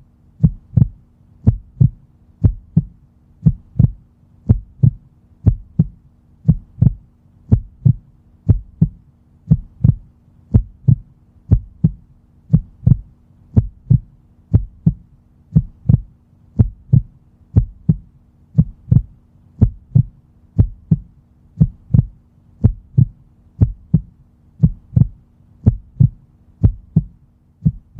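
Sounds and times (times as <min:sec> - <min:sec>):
heartbeat thumps: 0:00.4 - 0:27.9.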